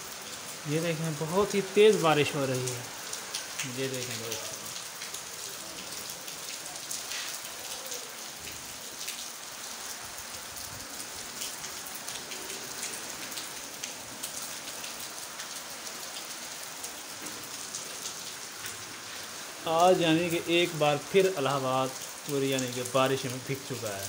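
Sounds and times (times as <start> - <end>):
heavy rain splashing on pavement: 0.0 - 24.0.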